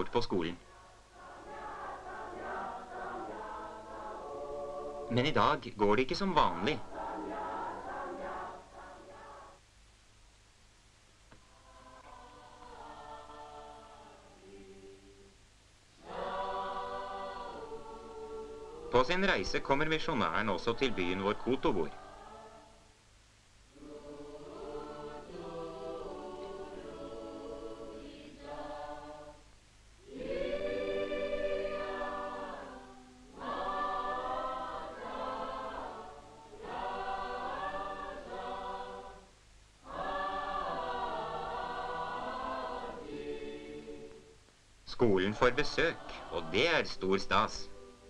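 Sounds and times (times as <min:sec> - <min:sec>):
choir singing: 0:00.0 - 0:09.6, 0:11.4 - 0:15.4, 0:16.0 - 0:23.0, 0:23.7 - 0:48.0.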